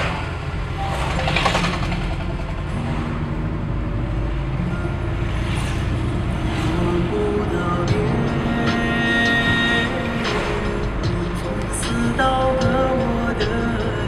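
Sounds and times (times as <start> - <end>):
car cabin road and engine noise: 0.0 - 14.0
lorry passing alongside: 0.0 - 14.0.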